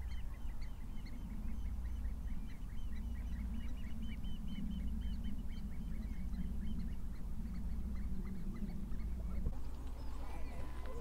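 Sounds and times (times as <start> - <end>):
steady low rumble: 0.0 - 11.0
waterbirds calling: 0.0 - 11.0.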